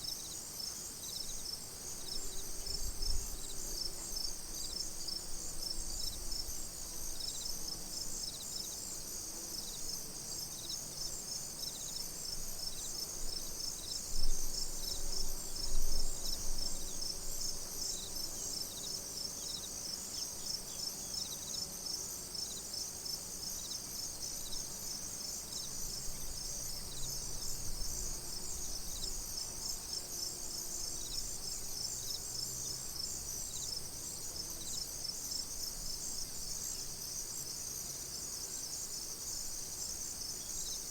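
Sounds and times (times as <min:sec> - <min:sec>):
cricket slow regular chirp: 0:00.0 - 0:40.9
crickets chirping: 0:00.0 - 0:40.9.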